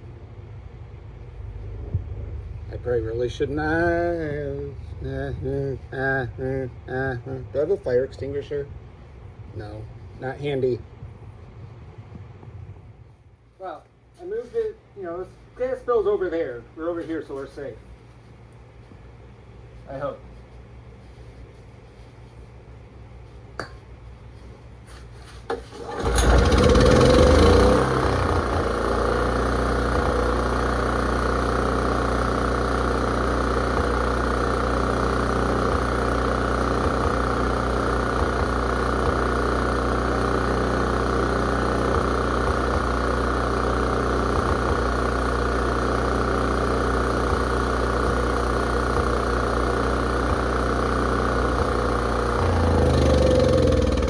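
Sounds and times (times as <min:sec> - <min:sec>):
generator engine starting and running: 0:00.0 - 0:13.5, 0:24.1 - 0:54.0.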